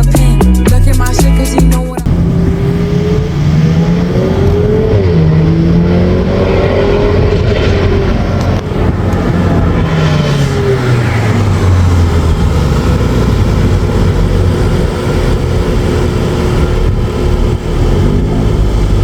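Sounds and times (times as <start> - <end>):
car engine and exhaust pulling hard: 2.0 - 19.0.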